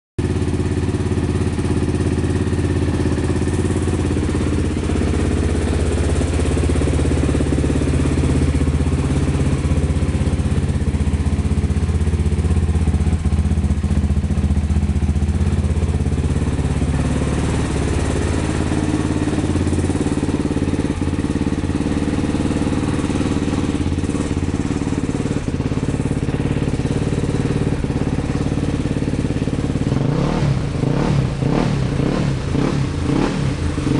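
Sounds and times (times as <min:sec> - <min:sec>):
motorcycle engine idling: 0:00.2 - 0:33.9.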